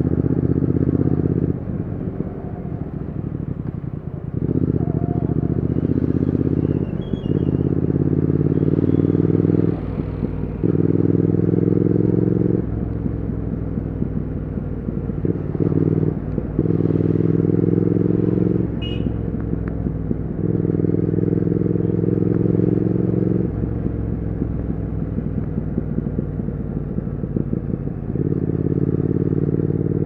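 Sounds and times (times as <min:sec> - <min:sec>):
motorcycle engine and exhaust: 0:00.0 - 0:30.0.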